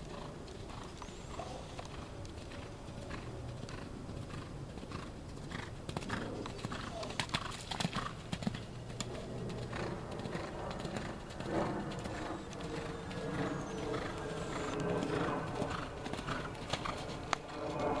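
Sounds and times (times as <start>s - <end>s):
horse hoofbeats on sand: 0.1s - 18.0s.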